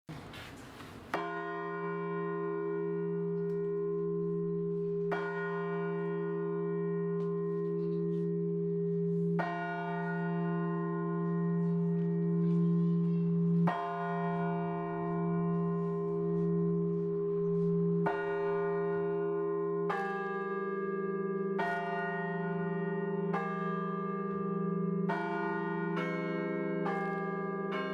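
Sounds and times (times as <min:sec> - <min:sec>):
large church bell striking: 0:01.1 - 0:27.9.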